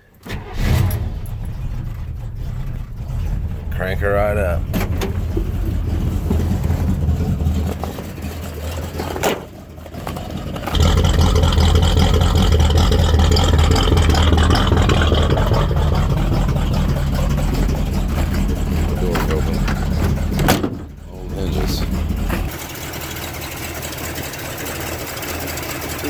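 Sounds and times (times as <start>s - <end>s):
engine cranking: 0.0s - 26.0s
engine idling: 0.0s - 26.0s.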